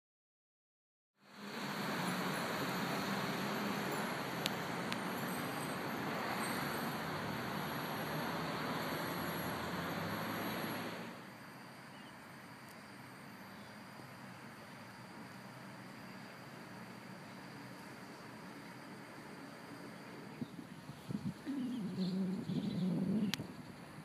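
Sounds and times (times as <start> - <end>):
distant road traffic hum: 1.2 - 24.0.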